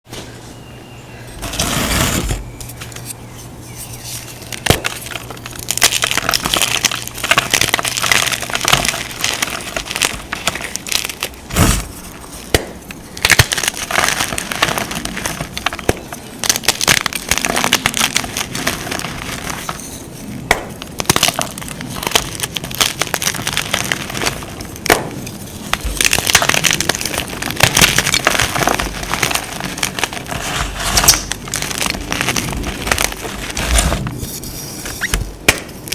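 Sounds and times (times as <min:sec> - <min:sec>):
powder blocks crunching: 0:01.2 - 0:03.1, 0:03.9 - 0:35.9.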